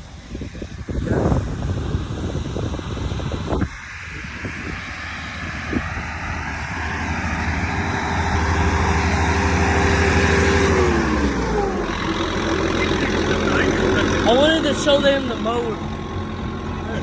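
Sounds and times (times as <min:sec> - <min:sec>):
mower engine running: 0:00.0 - 0:17.0.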